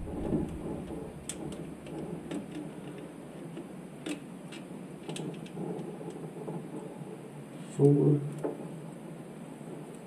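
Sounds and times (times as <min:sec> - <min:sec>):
faint background noise: 0:00.0 - 0:10.0.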